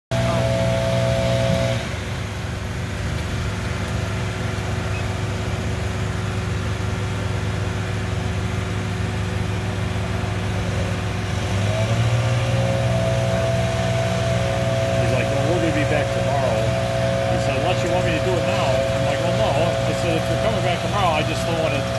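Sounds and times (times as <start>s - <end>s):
machine engine low drone: 0.0s - 21.9s.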